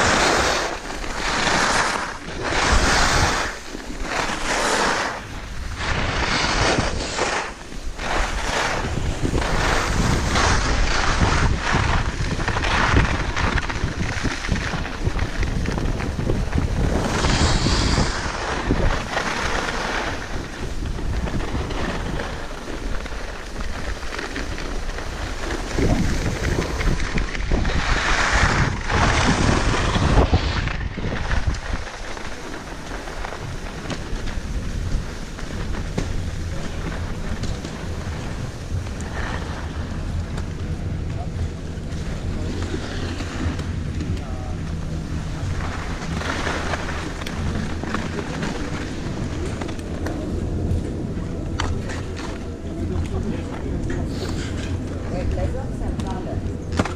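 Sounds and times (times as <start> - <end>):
skis hissing over snow: 0.0 - 56.3
wind buffeting microphone: 0.0 - 56.9.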